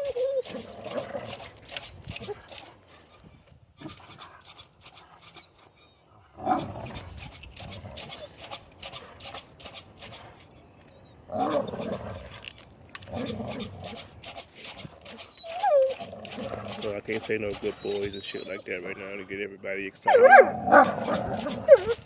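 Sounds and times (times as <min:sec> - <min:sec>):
wolves growling and snarling: 0:00.0 - 0:19.2, 0:20.0 - 0:22.0.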